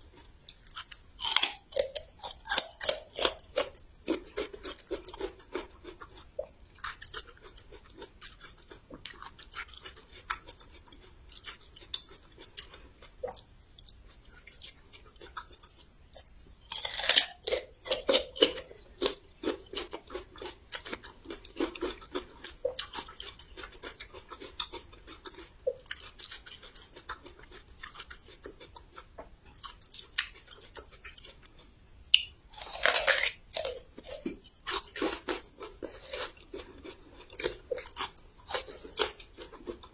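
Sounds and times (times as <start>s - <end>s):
chewing crunchy ginger: 0.0s - 39.9s.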